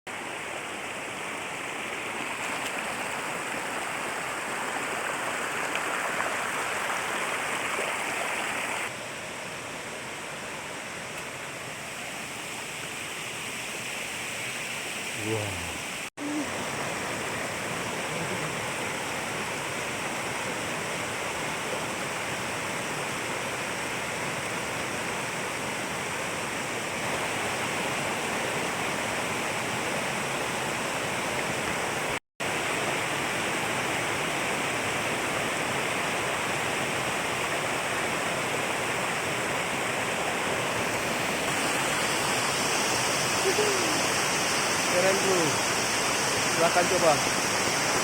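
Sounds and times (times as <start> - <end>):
waterfall rushing: 0.1 - 48.0.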